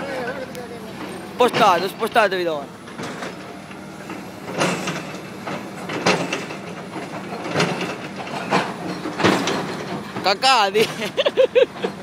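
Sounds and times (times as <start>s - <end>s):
excavator engine drone: 0.0s - 12.0s.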